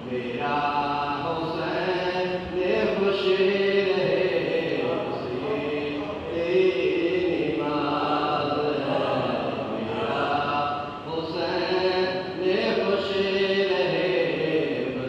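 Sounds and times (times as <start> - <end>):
person chanting a lament: 0.0 - 15.0.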